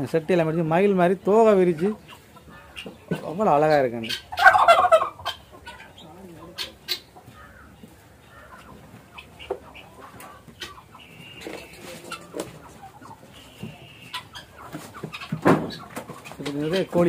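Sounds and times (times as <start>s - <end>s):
chickens clucking: 0.0s - 17.0s
chicken drawn-out high calls: 1.7s - 17.0s.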